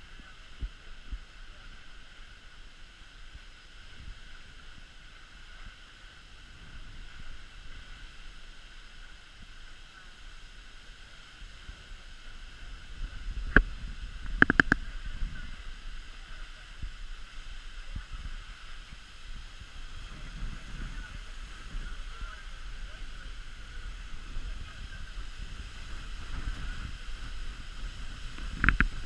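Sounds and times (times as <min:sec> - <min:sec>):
water noise: 0:00.0 - 0:29.0.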